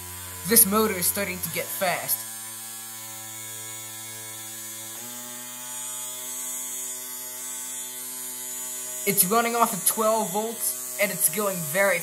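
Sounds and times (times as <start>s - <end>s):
small motor whining: 0.0s - 12.0s.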